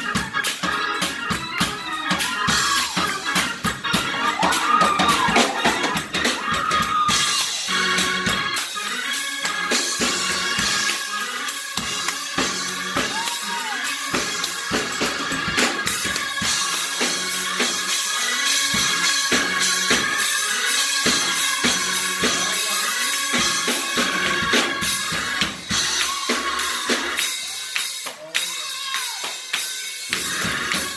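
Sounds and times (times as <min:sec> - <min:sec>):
bass drum and snare beat: 0:00.0 - 0:11.1, 0:11.8 - 0:30.9
live band music: 0:00.0 - 0:30.9.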